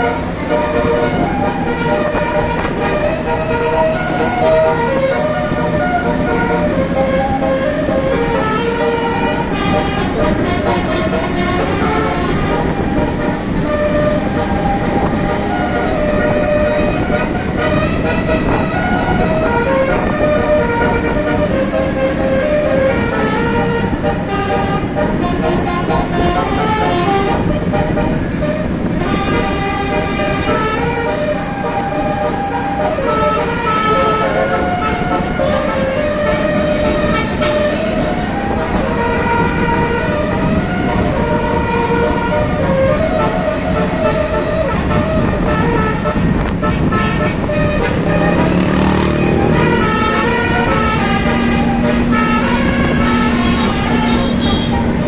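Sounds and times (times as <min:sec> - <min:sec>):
musical air horn tune: 0:00.0 - 0:55.0
vehicle and road noise: 0:00.0 - 0:55.0.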